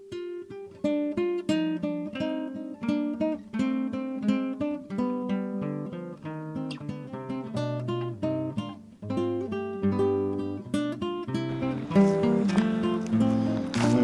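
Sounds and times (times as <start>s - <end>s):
plucked strings music: 0.0s - 14.0s.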